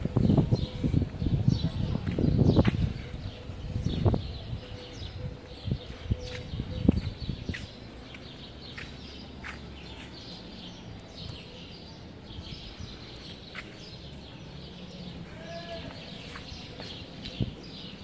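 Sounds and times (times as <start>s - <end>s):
low outdoor background: 0.0s - 18.0s
small birds chirping: 0.1s - 18.0s.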